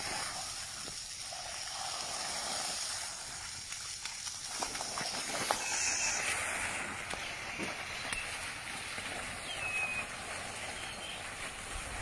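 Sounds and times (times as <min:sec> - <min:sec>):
hiss of falling water: 0:00.0 - 0:12.0
splashes in a puddle: 0:00.0 - 0:12.0.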